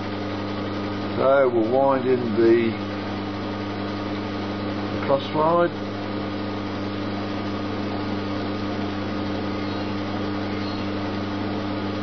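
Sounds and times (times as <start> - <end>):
lathe motor humming: 0.0 - 12.0.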